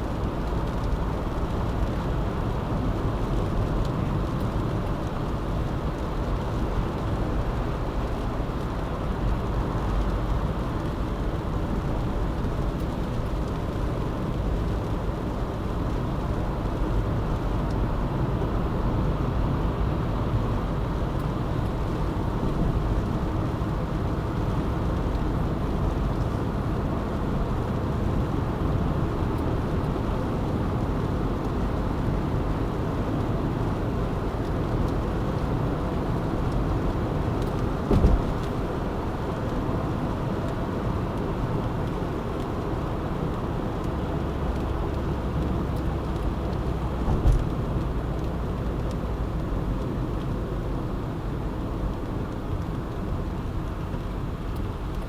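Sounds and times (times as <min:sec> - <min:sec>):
low engine hum: 0:00.0 - 0:55.0
road and tyre noise: 0:00.0 - 0:55.0.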